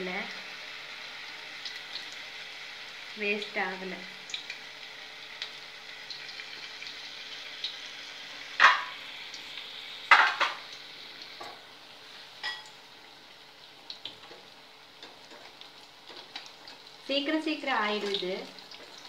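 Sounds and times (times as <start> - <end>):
food deep-frying in hot oil: 0.0 - 19.0
sharp sizzling bursts: 0.0 - 19.0.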